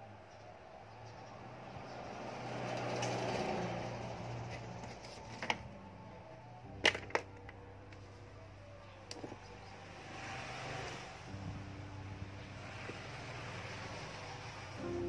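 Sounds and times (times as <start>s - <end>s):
vehicle passing by: 0.0s - 6.8s, 7.6s - 15.0s.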